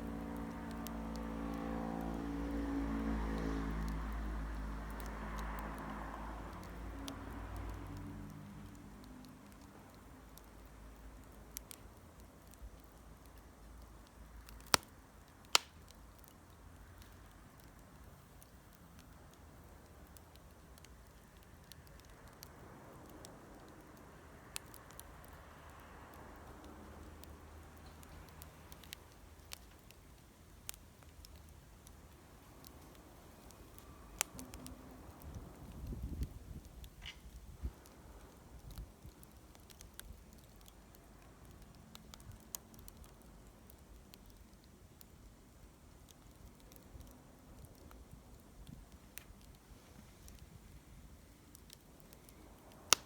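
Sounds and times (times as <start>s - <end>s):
bonfire crackling and popping: 0.0s - 53.0s.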